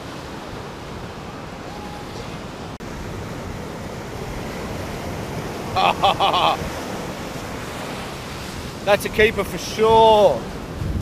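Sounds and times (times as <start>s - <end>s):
surf breaking on a beach: 0.0s - 11.0s.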